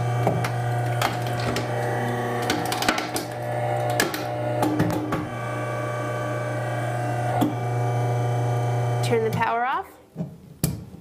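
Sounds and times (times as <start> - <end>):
motor hum: 0.0 - 9.5.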